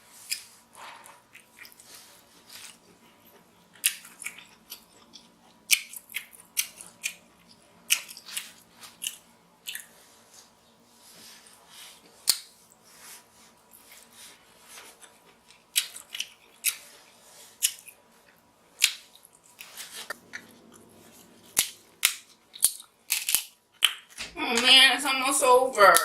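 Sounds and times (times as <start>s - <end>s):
faint eating sounds: 0.0s - 26.0s.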